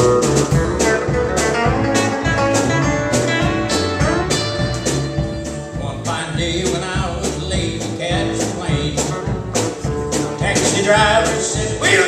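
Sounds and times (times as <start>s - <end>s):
country band playing: 0.0s - 12.0s
lead guitar: 0.0s - 12.0s
steady drum beat: 0.0s - 12.0s.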